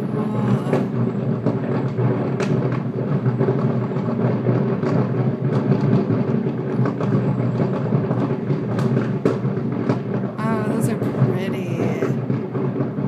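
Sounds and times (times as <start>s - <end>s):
distant fireworks bursting: 0.0s - 13.0s
firework cracks: 0.0s - 13.0s.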